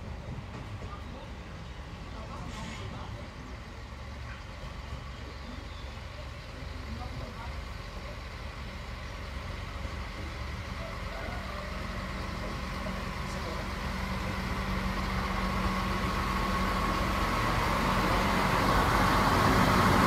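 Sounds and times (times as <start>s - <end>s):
diesel railcar engine hum: 0.0s - 20.0s.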